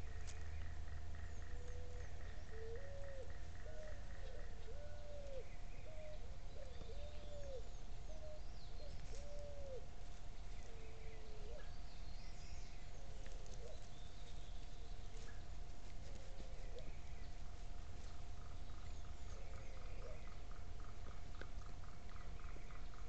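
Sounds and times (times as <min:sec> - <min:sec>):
bird hooting: 0:00.0 - 0:09.9, 0:10.5 - 0:11.8, 0:12.7 - 0:14.1, 0:16.0 - 0:17.3, 0:18.4 - 0:23.0.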